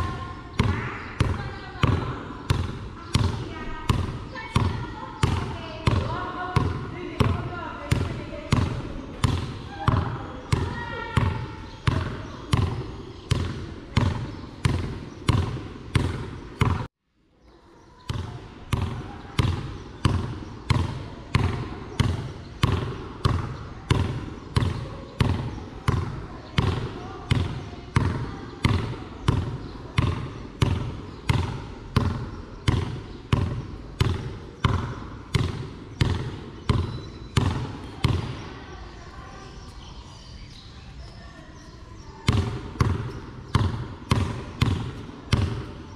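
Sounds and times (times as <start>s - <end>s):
basketball bouncing on concrete: 0.0s - 17.0s, 18.0s - 38.6s, 41.7s - 45.9s.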